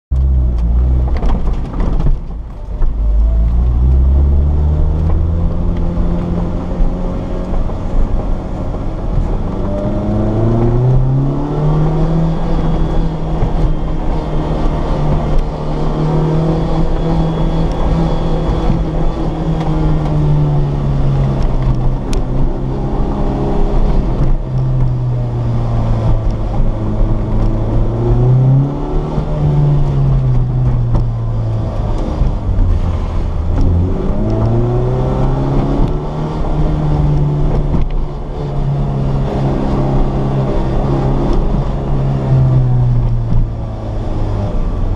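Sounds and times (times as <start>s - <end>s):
car engine from inside cabin: 0.1s - 44.9s
low road noise: 0.1s - 44.9s.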